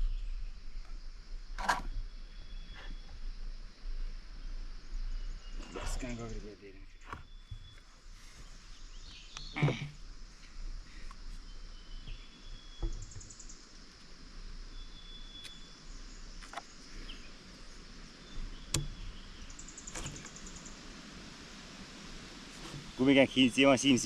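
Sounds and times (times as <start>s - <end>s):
high insect drone: 0.0s - 7.3s, 8.0s - 24.0s.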